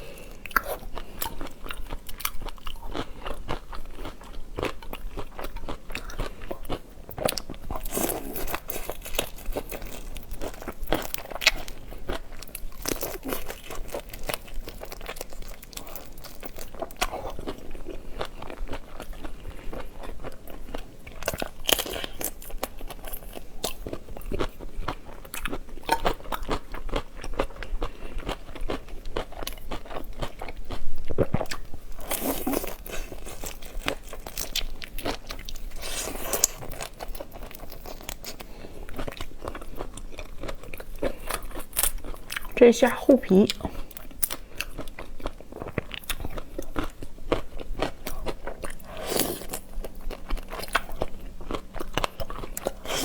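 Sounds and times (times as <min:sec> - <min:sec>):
person chewing crunchy seafood: 0:00.0 - 0:42.6, 0:43.3 - 0:53.0.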